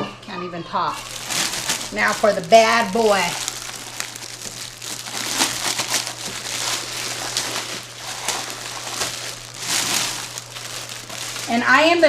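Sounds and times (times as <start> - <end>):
low electrical hum: 0.0 - 12.0
packaging crinkling and rustling: 0.9 - 12.0.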